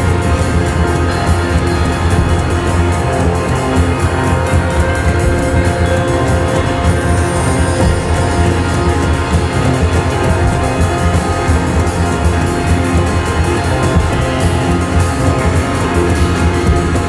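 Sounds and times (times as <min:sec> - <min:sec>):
droning bass: 0:00.0 - 0:17.0.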